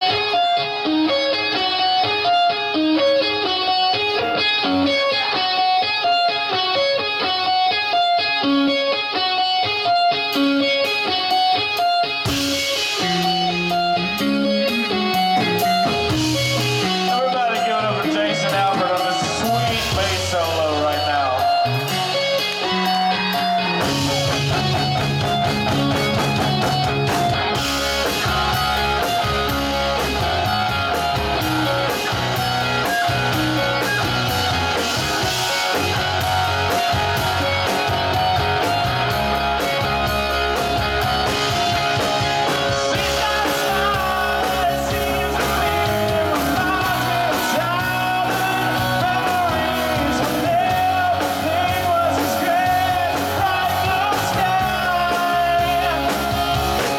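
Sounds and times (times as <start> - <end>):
bass guitar: 0.0 - 56.9
drum kit: 0.0 - 56.9
electric guitars: 0.0 - 56.9.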